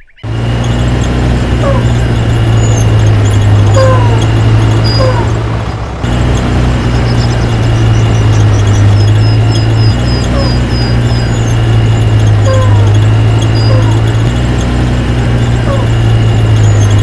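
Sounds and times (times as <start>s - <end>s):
birds chirping: 0.0s - 17.0s
loud low hum: 0.2s - 17.0s.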